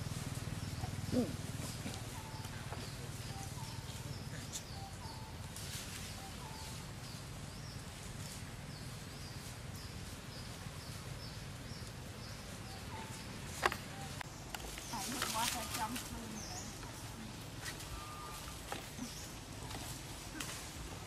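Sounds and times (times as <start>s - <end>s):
bird chirping: 0.4s - 19.9s.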